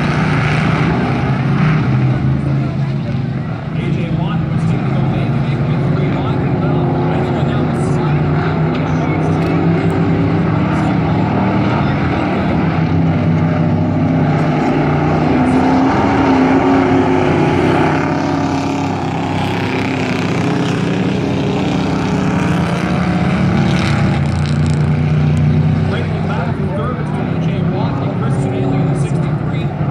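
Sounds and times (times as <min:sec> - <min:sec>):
race truck engines roaring: 0:00.0 - 0:29.9.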